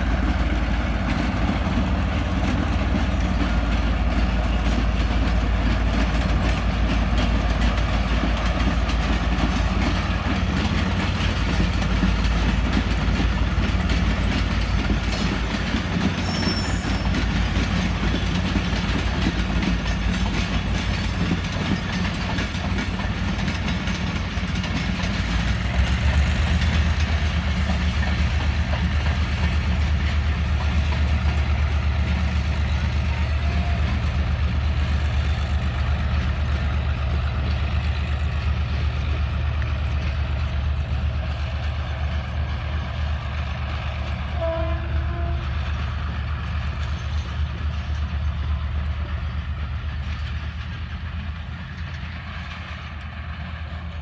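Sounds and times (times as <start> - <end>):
diesel locomotive running: 0.0 - 54.0
wheels clattering on rails: 0.0 - 54.0.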